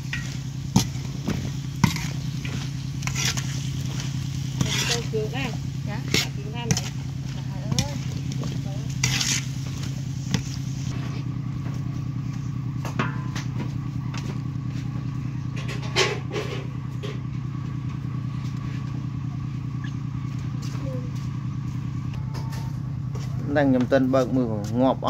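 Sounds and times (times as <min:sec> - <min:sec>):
small engine running: 0:00.0 - 0:24.4.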